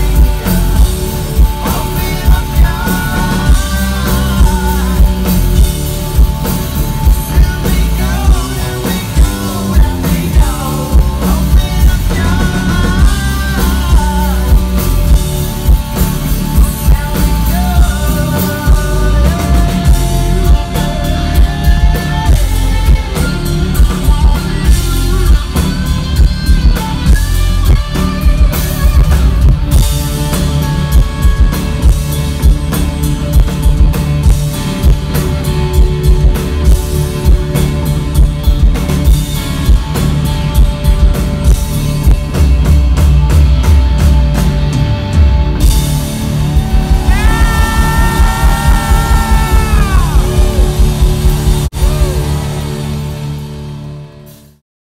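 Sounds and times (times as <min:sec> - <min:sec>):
bass drum beat: 0:00.0 - 0:53.5
live rock band playing: 0:00.0 - 0:54.6.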